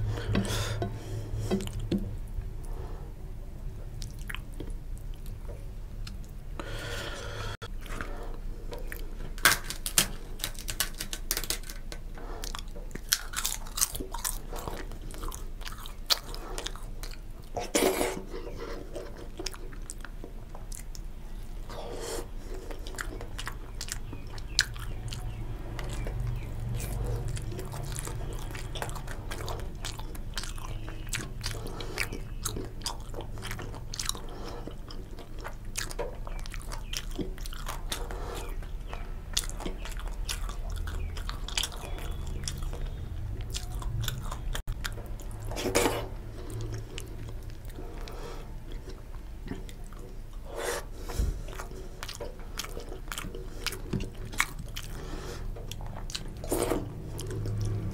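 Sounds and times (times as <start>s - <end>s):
person chewing and biting food: 7.7s - 57.9s
food crunching: 8.7s - 57.9s.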